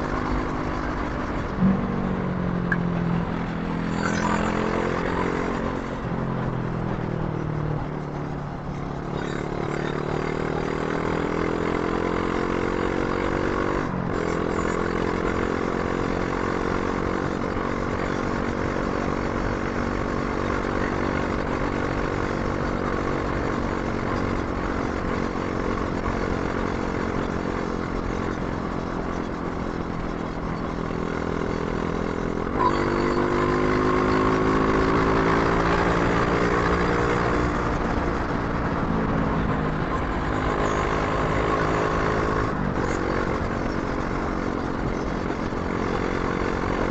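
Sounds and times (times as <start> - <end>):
motorcycle engine: 0.0 - 46.9
road and wind noise: 0.0 - 46.9.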